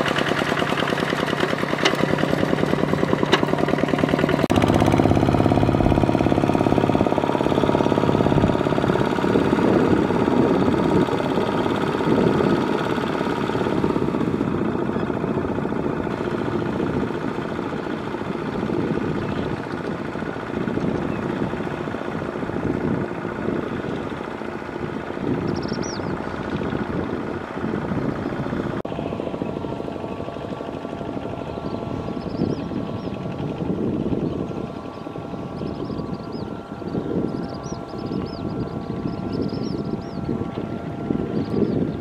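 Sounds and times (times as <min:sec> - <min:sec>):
diesel engine running: 0:00.0 - 0:42.0
wheels churning water: 0:00.0 - 0:42.0.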